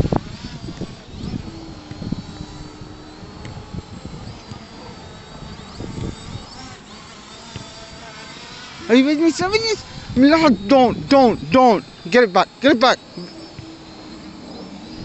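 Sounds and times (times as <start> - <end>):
wind buffeting microphone: 0.0 - 8.2, 8.8 - 15.0
drone propellers whining: 0.0 - 15.0.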